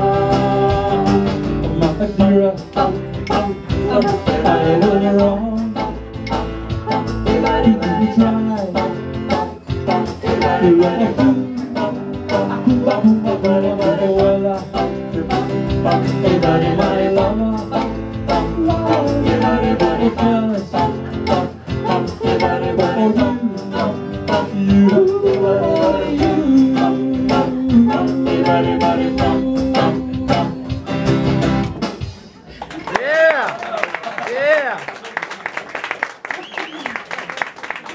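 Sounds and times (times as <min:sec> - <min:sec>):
person singing: 0:00.0 - 0:31.3
plucked guitars: 0:00.0 - 0:32.1.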